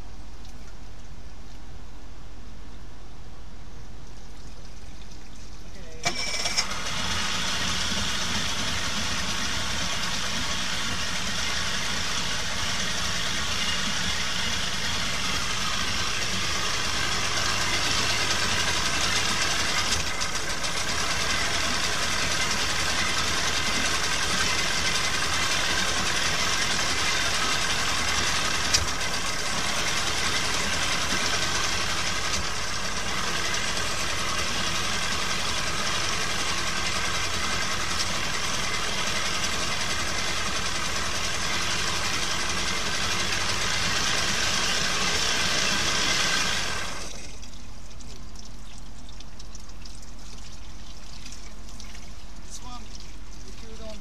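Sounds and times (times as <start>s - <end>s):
outboard engine idling: 5.4s - 54.0s.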